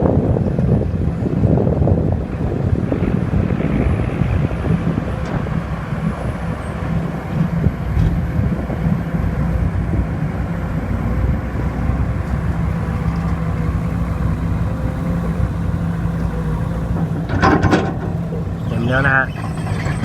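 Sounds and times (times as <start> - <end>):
heavy diesel engines droning: 0.0 - 20.0
wind noise on microphone: 0.0 - 20.0.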